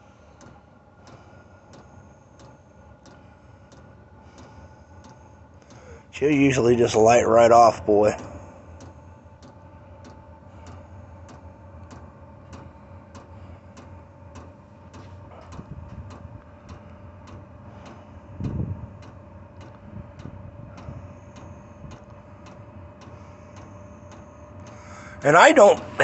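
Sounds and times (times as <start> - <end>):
fuel pump ticking: 0.0 - 26.0
heater blower hum: 0.0 - 26.0.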